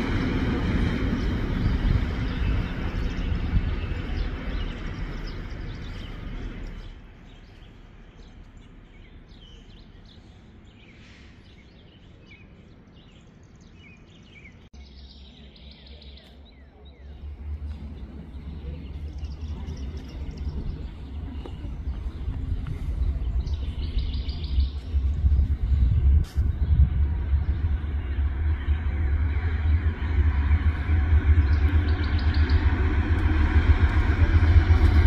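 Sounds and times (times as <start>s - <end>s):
low rumble: 0.0s - 12.2s, 16.4s - 35.0s
birds chirping: 0.0s - 35.0s
freight train rumble: 0.0s - 35.0s.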